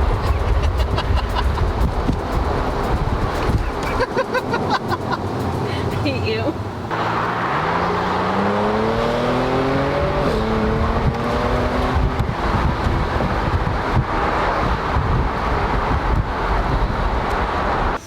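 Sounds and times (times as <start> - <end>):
car engine accelerating hard: 0.0 - 18.0
wind and road noise: 0.0 - 18.0.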